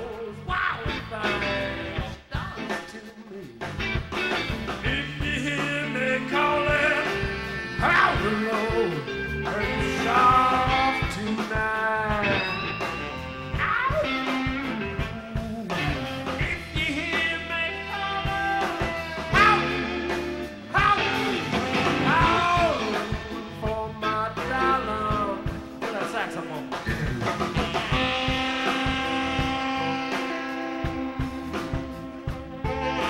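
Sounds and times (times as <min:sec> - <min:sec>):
bass: 0:00.0 - 0:33.0
drums: 0:00.0 - 0:33.0
electric guitar bending notes: 0:03.8 - 0:25.9, 0:26.5 - 0:33.0.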